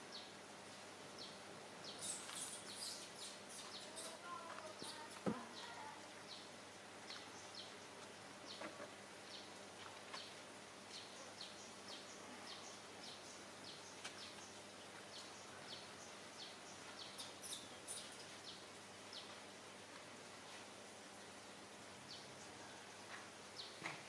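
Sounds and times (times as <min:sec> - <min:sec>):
background hiss: 0:00.0 - 0:24.0
birds chirping faintly: 0:00.0 - 0:24.0.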